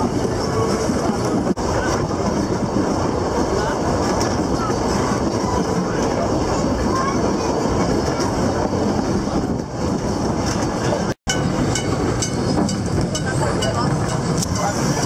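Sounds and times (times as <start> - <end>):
train carriage rumbling on rails: 0.0 - 15.0.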